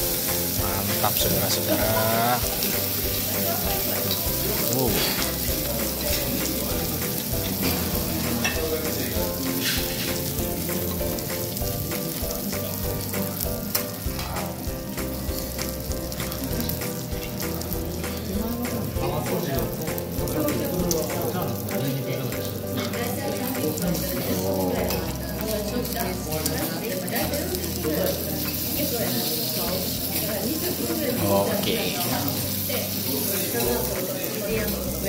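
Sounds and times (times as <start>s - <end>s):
beef sizzling on a griddle: 0.0s - 35.0s.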